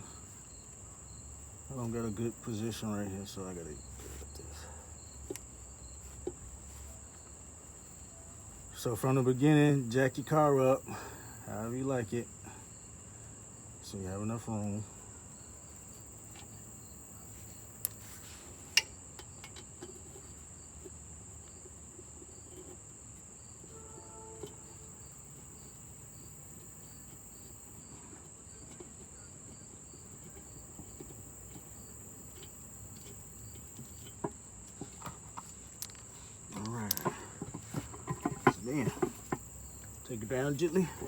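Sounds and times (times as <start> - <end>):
high-pitched insect trill: 0.0 - 18.2, 20.2 - 41.0.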